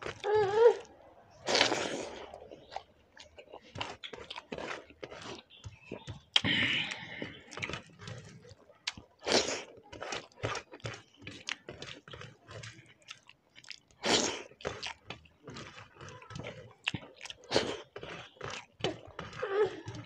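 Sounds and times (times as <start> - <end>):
wet chewing and mouth smacks: 0.0 - 20.0.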